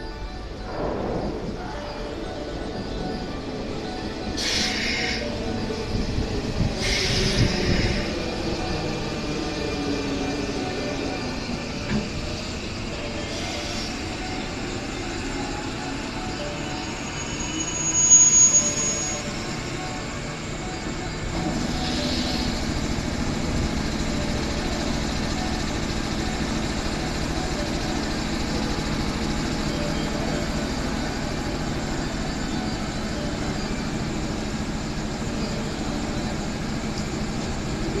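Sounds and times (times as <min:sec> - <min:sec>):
electric train slowing to a stop: 0:00.0 - 0:38.0.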